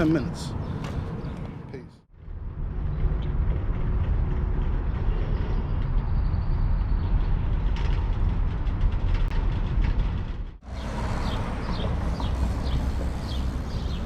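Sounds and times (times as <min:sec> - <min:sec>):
wind and road rumble: 0:00.0 - 0:14.0.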